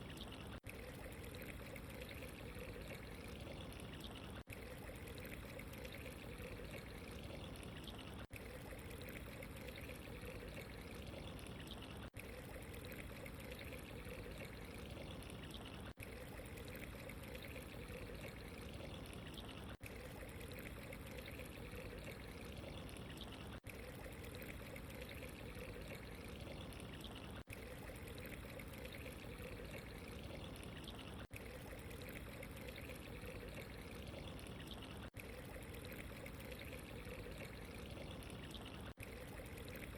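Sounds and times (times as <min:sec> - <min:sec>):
running water trickle: 0:00.0 - 0:39.9.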